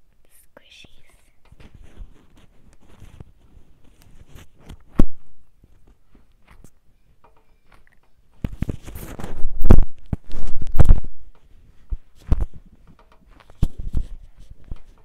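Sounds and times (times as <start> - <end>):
crackling scratching noise: 0.3 - 6.8, 8.4 - 15.0.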